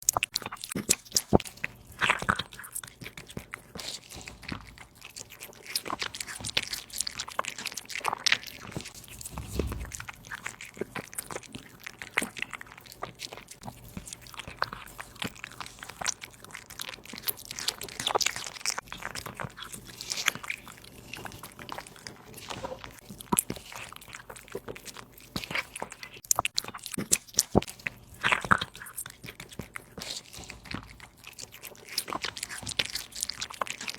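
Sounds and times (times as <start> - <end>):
cat crunching meat and bones: 0.0 - 33.9.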